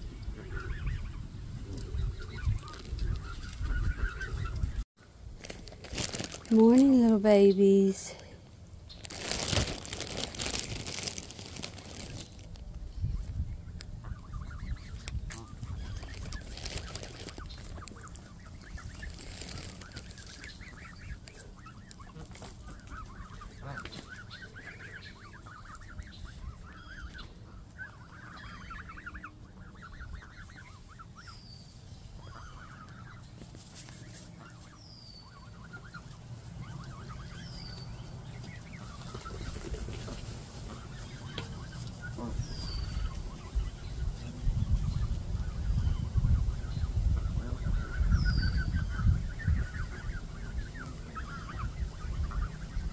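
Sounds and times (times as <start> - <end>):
geese calling: 0.2 - 4.8, 14.0 - 52.9.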